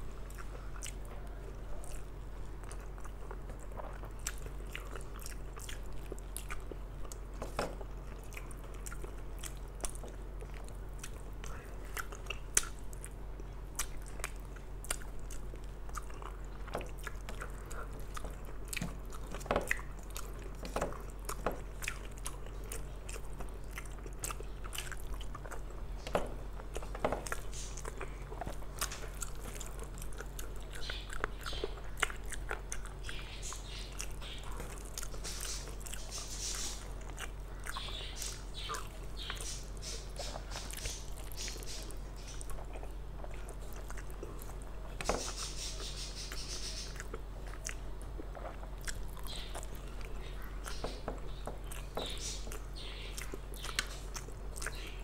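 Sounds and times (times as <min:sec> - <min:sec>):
person chewing: 0:00.0 - 0:55.0
steady low hum: 0:00.0 - 0:55.0.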